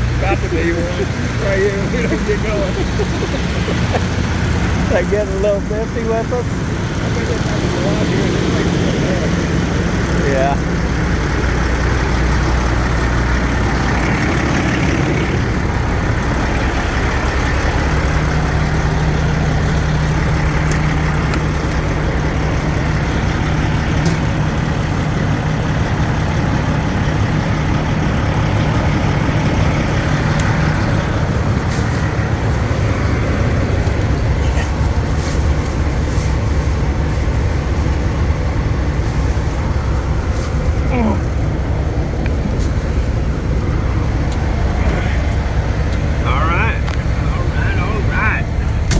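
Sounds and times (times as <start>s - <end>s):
diesel truck engine droning: 0.0s - 48.9s
higher engine drone: 0.0s - 48.9s.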